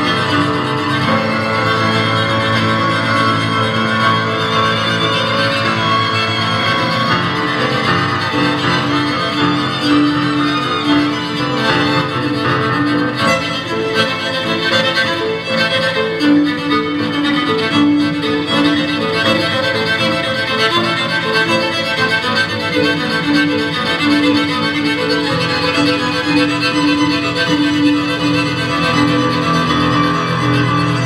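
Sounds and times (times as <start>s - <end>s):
cello: 0.0s - 31.0s
grand piano: 0.0s - 31.0s
violin: 0.0s - 31.0s.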